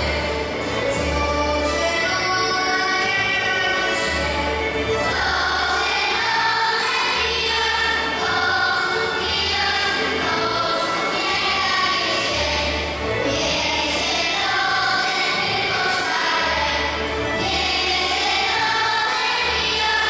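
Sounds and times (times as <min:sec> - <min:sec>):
children singing: 0:00.0 - 0:20.0
double bass: 0:00.0 - 0:20.0
folk band playing: 0:00.0 - 0:20.0.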